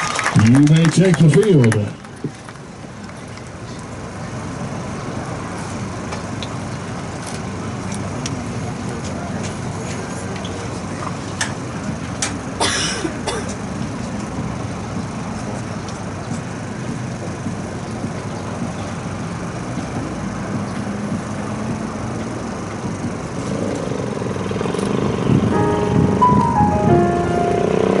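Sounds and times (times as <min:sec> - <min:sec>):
murmur of stadium crowd: 0:00.0 - 0:26.9.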